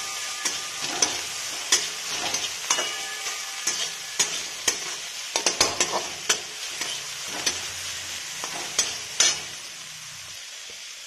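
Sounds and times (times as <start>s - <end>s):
metal spatula scraping pan: 0.0s - 9.8s
food sizzling in a wok: 0.0s - 11.0s.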